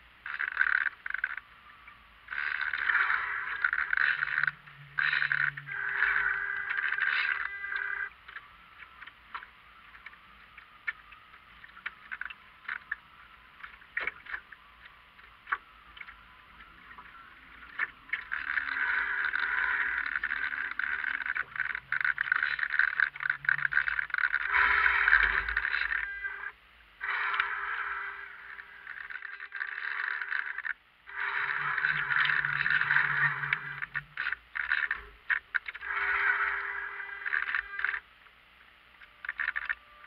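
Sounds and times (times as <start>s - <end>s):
small ticks and knocks: 0.2s - 27.6s, 28.9s - 38.4s, 39.0s - 40.0s.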